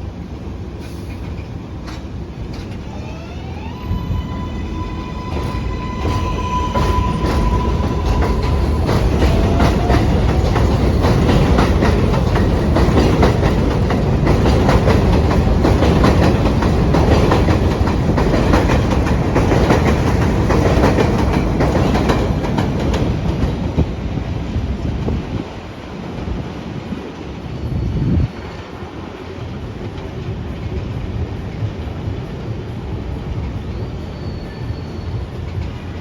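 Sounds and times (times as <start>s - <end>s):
train wheels clacking on rails: 0.7s - 36.0s.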